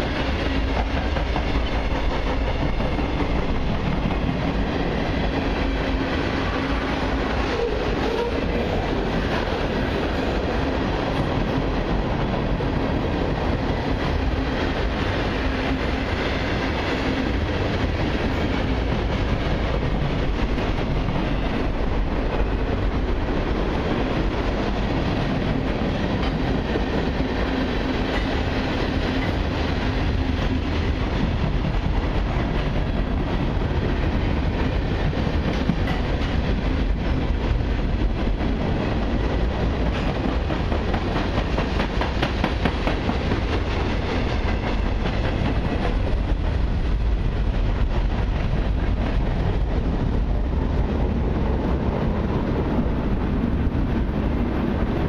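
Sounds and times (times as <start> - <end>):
freight cars rolling on rails: 0.0 - 55.0.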